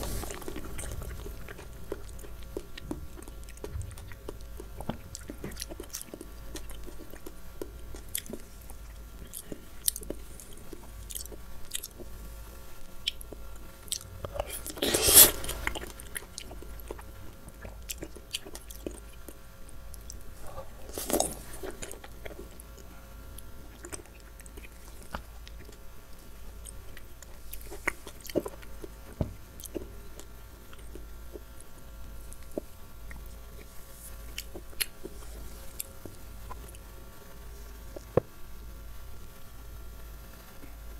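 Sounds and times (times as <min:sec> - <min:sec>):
chewing juicy fruit: 0:00.0 - 0:12.2, 0:12.9 - 0:36.9
faint low hum: 0:00.0 - 0:40.9.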